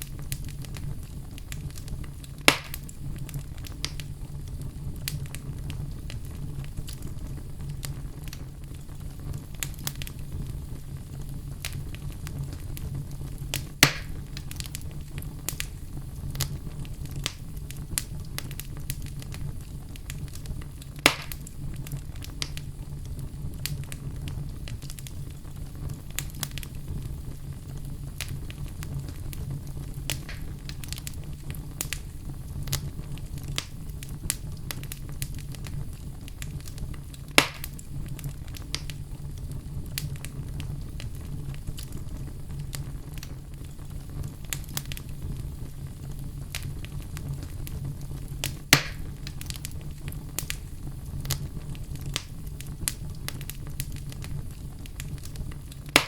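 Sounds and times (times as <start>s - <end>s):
fire crackles: 0.0s - 56.0s
fire low rumble: 0.0s - 56.0s
fire pops: 0.0s - 56.0s.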